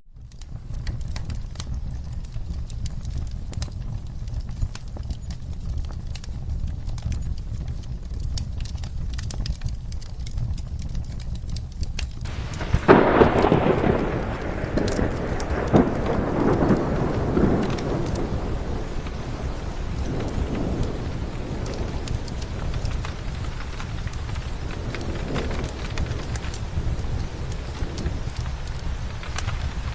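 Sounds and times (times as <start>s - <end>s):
rain: 0.0s - 29.9s
wood fire crackling: 0.0s - 29.9s
thunder rumbling: 0.1s - 29.9s.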